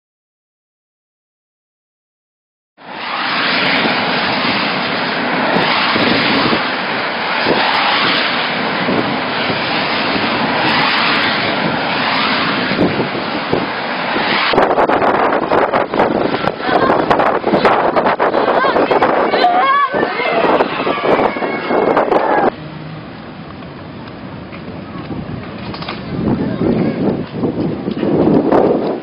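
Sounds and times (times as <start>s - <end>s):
strong wind buffeting microphone: 2.8s - 29.0s.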